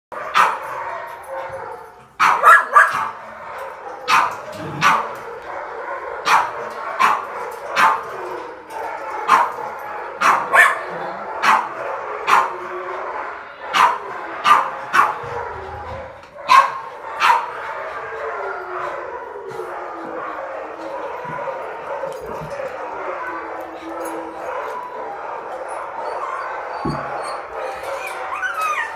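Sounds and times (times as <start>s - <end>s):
dog barking: 0.1s - 28.9s
other dogs in background: 0.1s - 28.9s.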